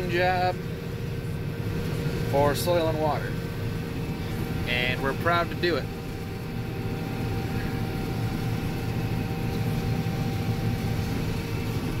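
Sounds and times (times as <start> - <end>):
faint steady whine: 0.0 - 12.0
harvester engine drone: 0.0 - 12.0.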